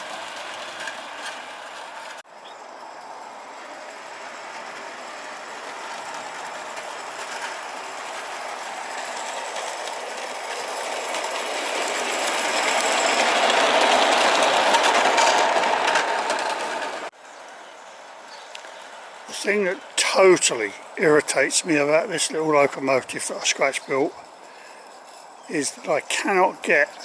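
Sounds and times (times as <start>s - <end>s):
model steam locomotive running: 0.0s - 17.2s, 18.9s - 27.0s.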